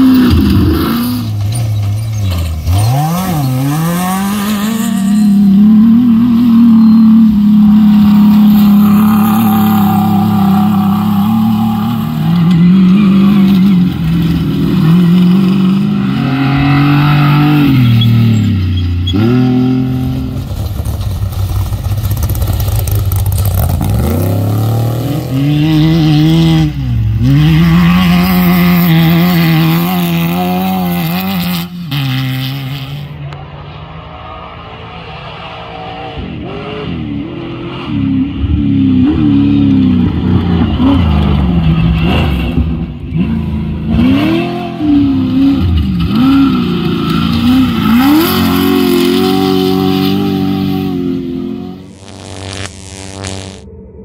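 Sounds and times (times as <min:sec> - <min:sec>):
buggy engines revving: 0:00.0 - 0:53.6.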